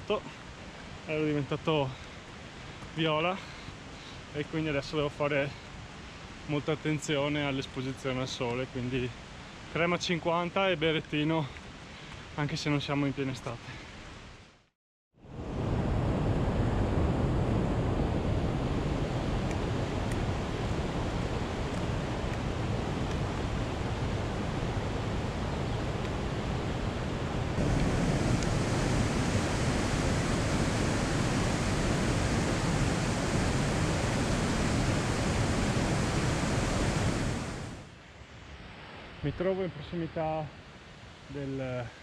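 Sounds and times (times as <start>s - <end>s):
steady rushing outdoor noise: 0.0s - 14.5s, 15.2s - 42.0s.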